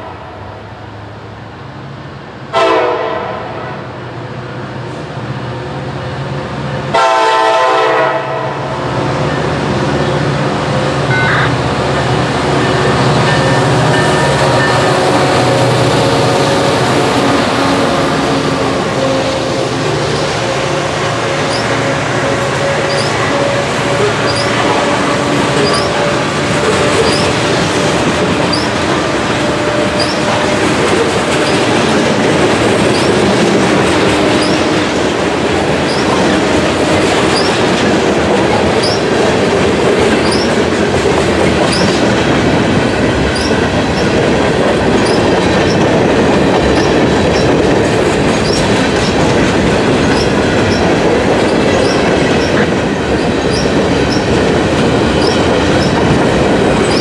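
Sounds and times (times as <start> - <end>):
train wheels clattering on rails: 6.5 - 57.0.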